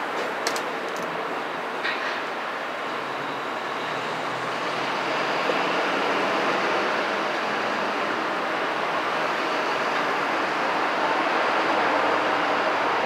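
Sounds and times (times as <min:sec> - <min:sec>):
passing vehicles rolling: 0:00.0 - 0:13.0.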